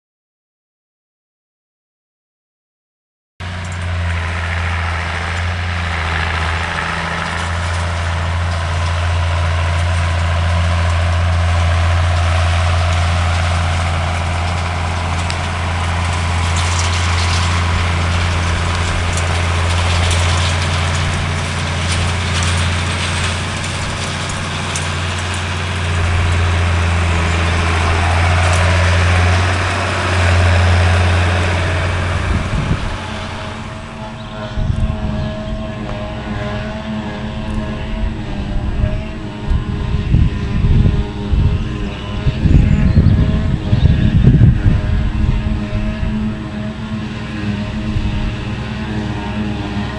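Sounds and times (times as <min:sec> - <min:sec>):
tractor engine running: 0:03.4 - 0:49.9.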